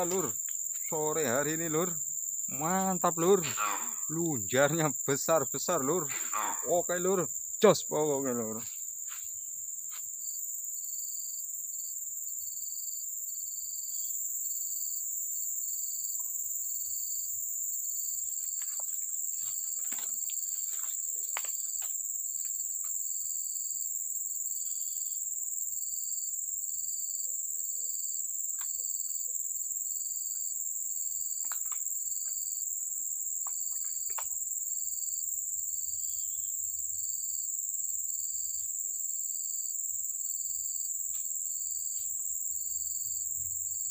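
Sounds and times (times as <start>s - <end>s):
insect chirping: 0.0s - 43.9s
insects droning: 0.0s - 43.9s.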